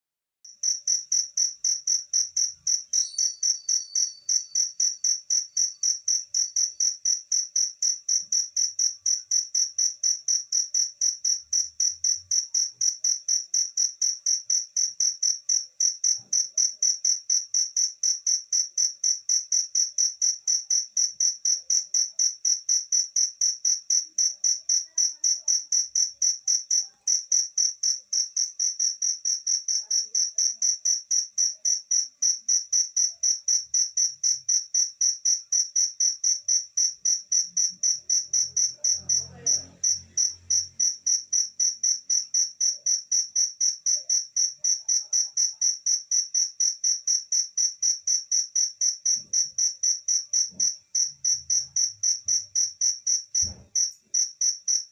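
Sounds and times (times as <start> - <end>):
cricket chirping: 0.5 - 54.9.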